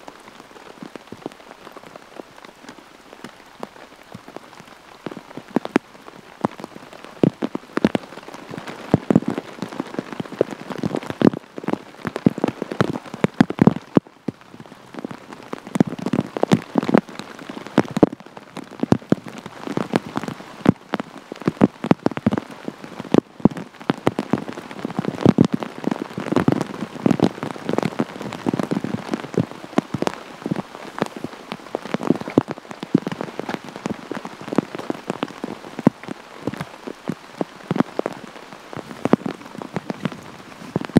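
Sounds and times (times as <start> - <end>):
heavy rain falling: 0.0 - 40.9
raindrop impacts ticking: 0.0 - 40.9.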